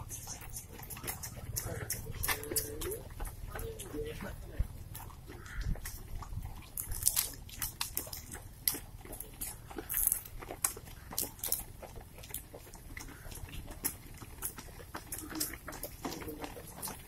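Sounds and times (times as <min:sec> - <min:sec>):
running footsteps on asphalt: 0:00.0 - 0:17.0.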